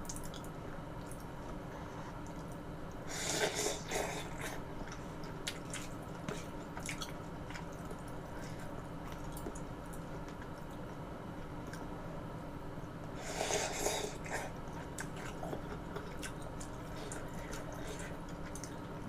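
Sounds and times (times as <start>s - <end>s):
soft wet chewing: 0.0s - 12.1s, 12.8s - 19.0s.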